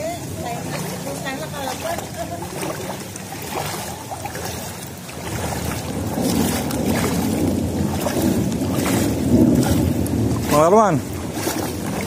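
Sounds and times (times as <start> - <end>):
wading through floodwater: 0.0 - 12.0.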